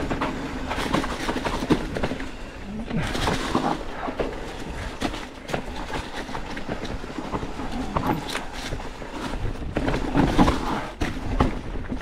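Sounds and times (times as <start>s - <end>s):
bike clattering over rough trail: 0.0s - 12.0s.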